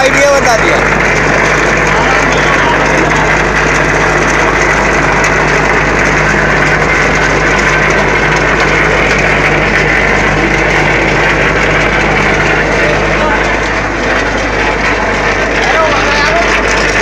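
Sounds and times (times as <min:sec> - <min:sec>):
concrete mixer running: 0:00.0 - 0:17.0
vibrating table rattle: 0:00.0 - 0:17.0.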